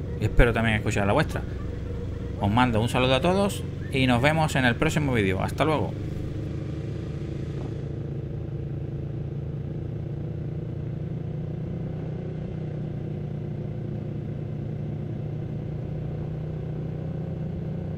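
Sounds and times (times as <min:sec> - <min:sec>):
motorcycle engine drone: 0:00.0 - 0:17.9.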